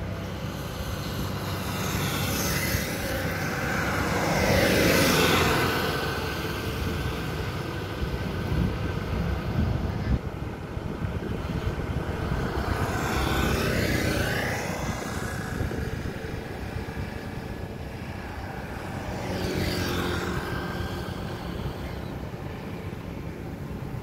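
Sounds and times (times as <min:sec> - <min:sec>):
motorcycle approaching: 0:00.0 - 0:23.1
low drone of diesel engines: 0:00.0 - 0:24.0
truck passing by: 0:00.0 - 0:24.0.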